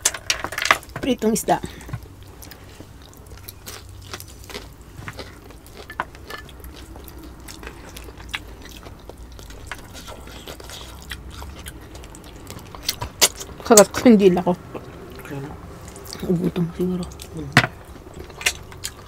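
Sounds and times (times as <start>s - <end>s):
people chewing fried fish: 1.7s - 19.0s.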